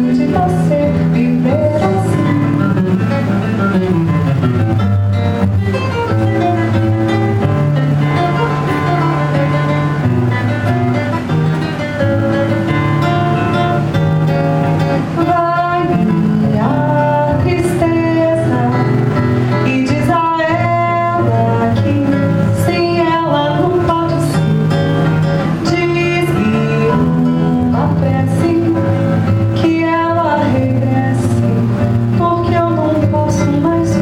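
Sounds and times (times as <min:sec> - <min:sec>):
acoustic guitar bossa nova: 0:00.0 - 0:34.0.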